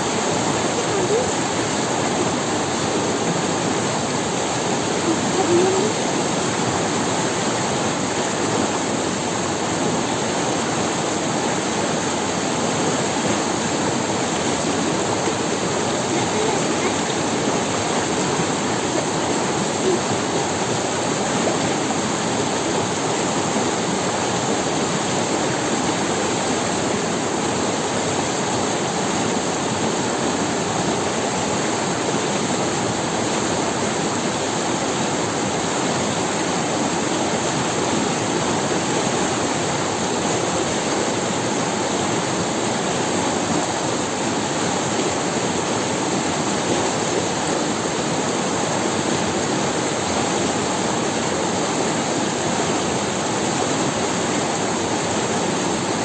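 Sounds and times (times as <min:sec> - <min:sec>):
river running over stones: 0:00.0 - 0:56.0.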